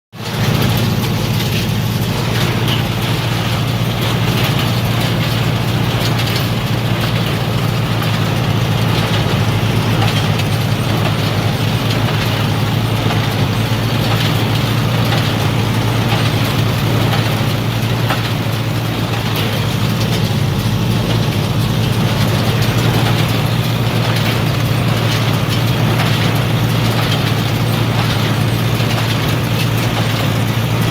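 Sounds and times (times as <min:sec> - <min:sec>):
baler mechanical clatter: 0:00.2 - 0:30.9
tractor and baler engines droning: 0:00.2 - 0:30.9.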